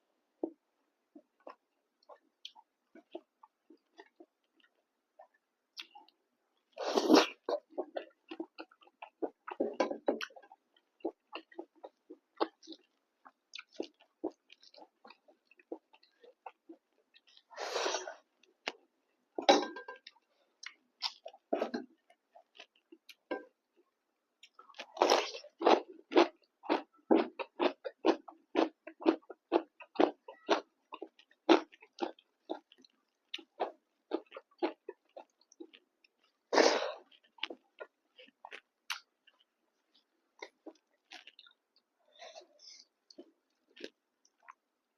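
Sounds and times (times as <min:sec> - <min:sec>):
chewing food: 0:00.4 - 0:17.6, 0:18.2 - 0:44.7.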